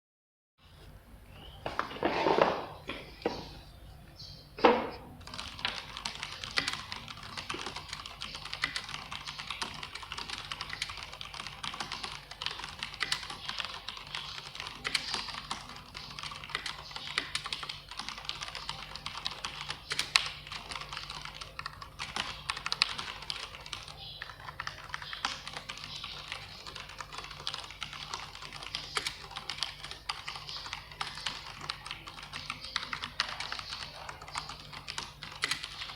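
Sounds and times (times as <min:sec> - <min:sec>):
mechanical keyboard typing: 0:05.2 - 0:35.9.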